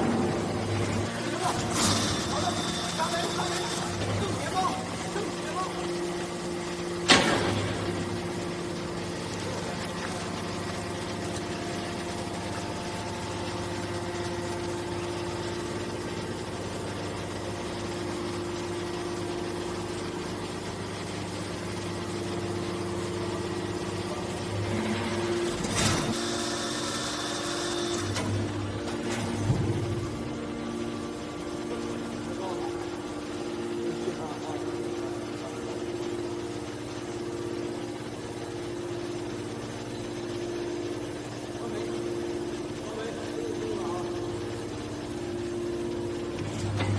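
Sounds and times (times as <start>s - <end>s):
baler motor and pump hum: 0.0s - 46.9s.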